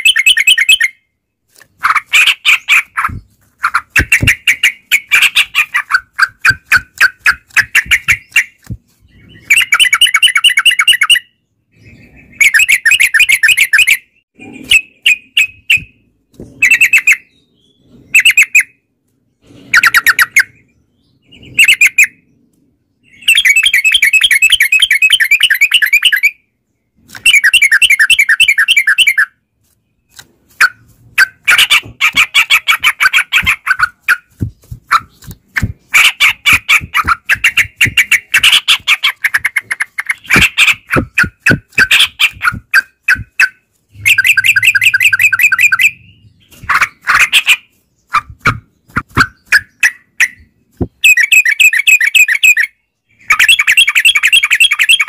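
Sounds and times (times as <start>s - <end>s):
bulbuls singing: 0.0s - 26.4s, 27.0s - 29.4s, 30.0s - 55.0s.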